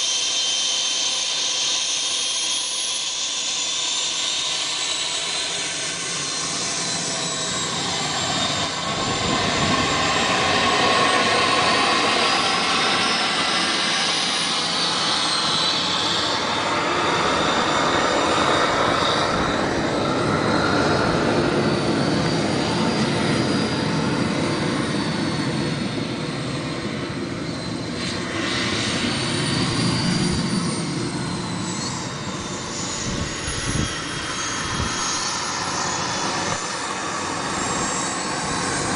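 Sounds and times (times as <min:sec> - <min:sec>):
model jet turbine whining: 0:00.0 - 0:38.9.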